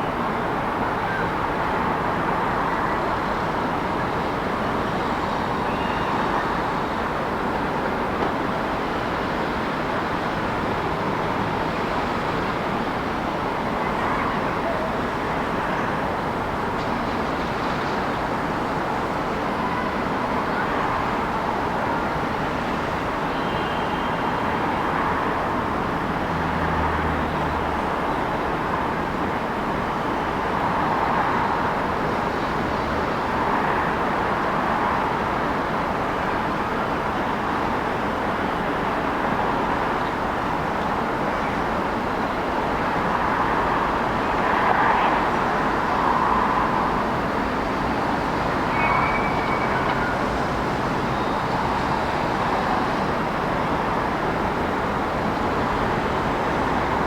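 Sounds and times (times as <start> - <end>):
city street traffic: 0.0 - 57.0.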